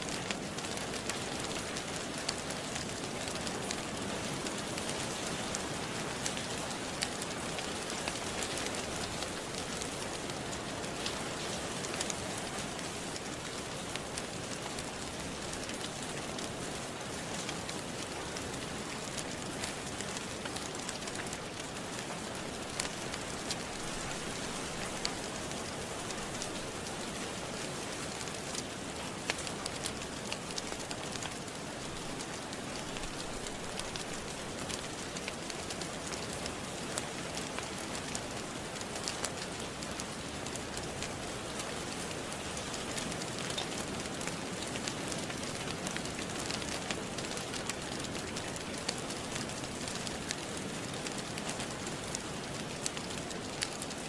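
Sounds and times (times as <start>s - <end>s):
rain falling: 0.0s - 54.0s
small crackles and pops: 0.0s - 54.0s.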